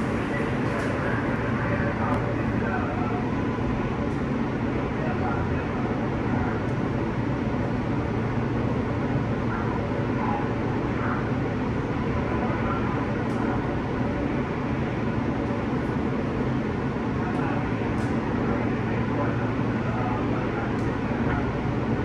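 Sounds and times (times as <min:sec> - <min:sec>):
subway train rumble and hiss: 0:00.0 - 0:22.0.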